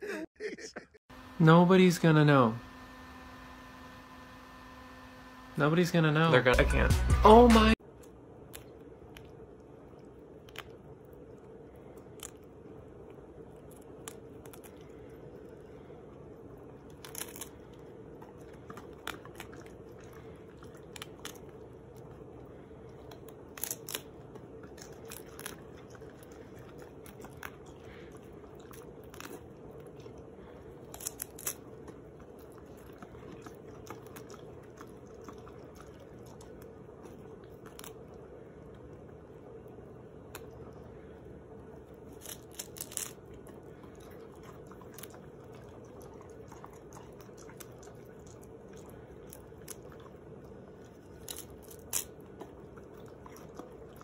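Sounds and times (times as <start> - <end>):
faint steady hum: 0.0 - 54.0
animals crunching lettuce: 5.6 - 54.0.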